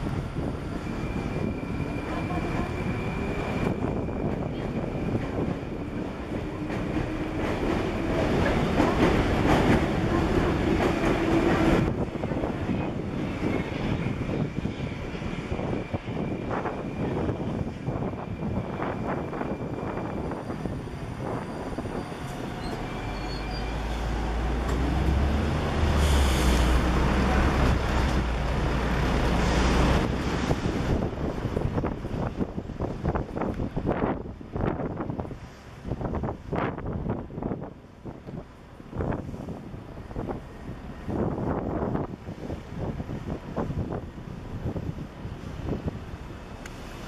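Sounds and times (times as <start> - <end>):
wind on microphone: 0.0 - 22.8, 24.3 - 47.0
train wheel and rail rumble: 0.0 - 47.0.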